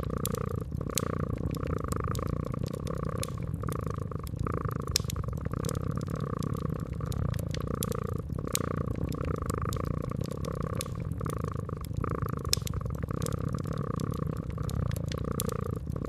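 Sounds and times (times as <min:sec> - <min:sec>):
cat purring: 0:00.0 - 0:16.0
wood fire crackling and popping: 0:00.0 - 0:16.0.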